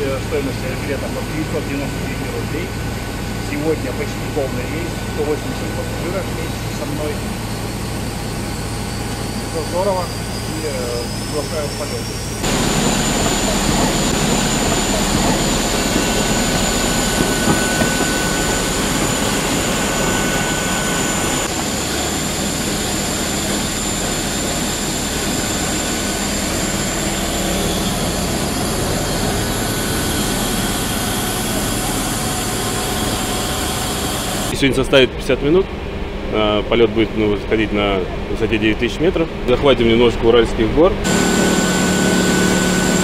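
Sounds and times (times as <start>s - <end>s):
high-pitched jet whine: 0.0s - 38.2s, 40.9s - 43.0s
jet aircraft roar: 0.0s - 38.4s, 40.9s - 43.0s.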